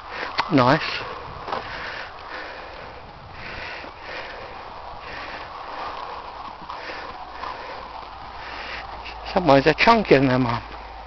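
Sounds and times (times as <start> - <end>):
person breathing: 0.0 - 9.2.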